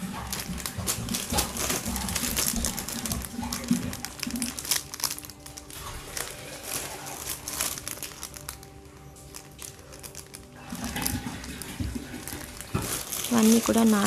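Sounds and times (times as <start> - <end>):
plastic packets crinkling: 0.0 - 14.0.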